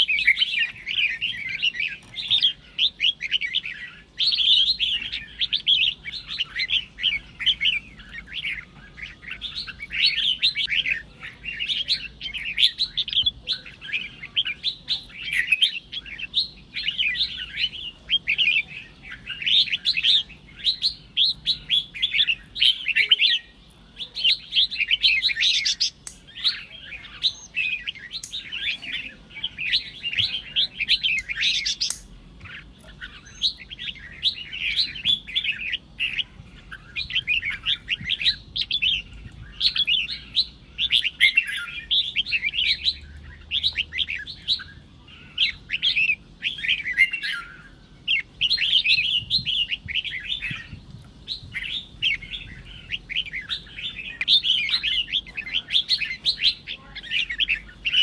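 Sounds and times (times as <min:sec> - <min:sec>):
bird singing chattering warbles: 0:00.0 - 0:58.0.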